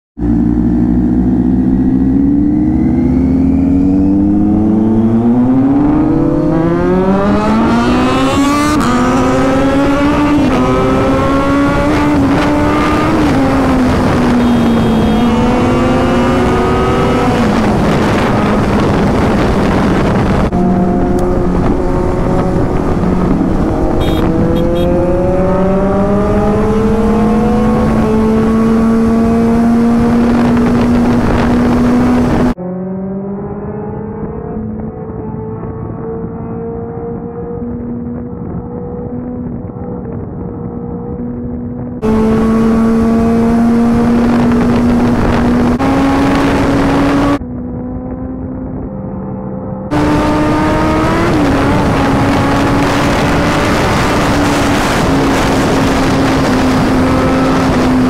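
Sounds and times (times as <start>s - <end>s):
motorcycle engine accelerating: 0.2s - 58.0s.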